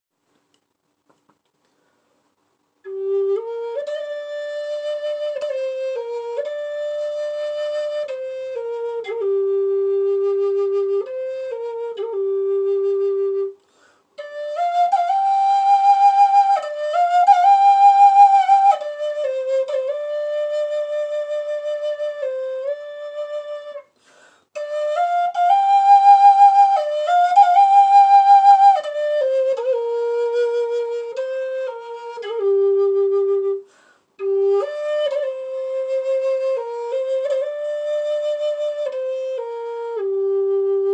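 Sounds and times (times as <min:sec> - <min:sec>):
wooden flute melody: 0:02.8 - 0:40.9.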